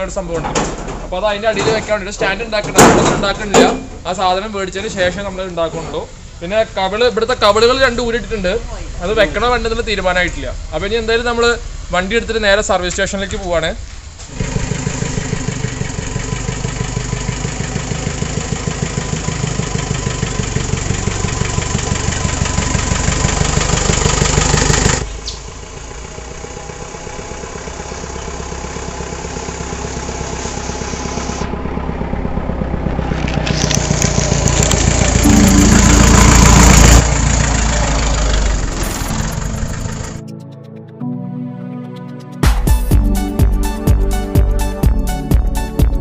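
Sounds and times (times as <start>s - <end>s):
jeep engine running: 0.0s - 40.4s.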